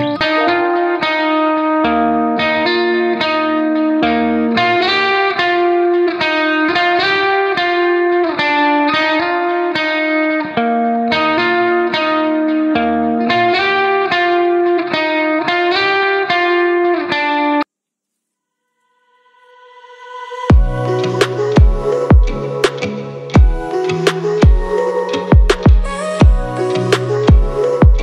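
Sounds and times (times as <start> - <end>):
guitar picking plucked notes: 0.0 - 17.6, 20.5 - 28.0.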